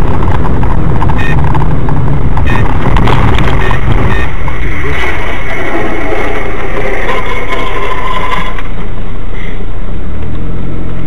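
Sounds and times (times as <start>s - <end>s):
high whine: 0.0s - 11.0s
vehicle and road rumble: 0.0s - 11.0s.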